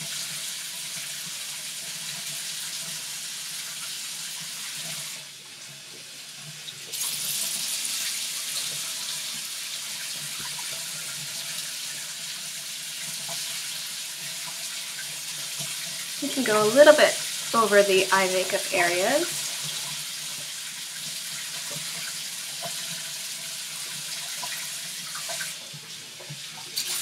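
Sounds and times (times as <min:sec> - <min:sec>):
water running from tap into sink: 0:00.0 - 0:27.0.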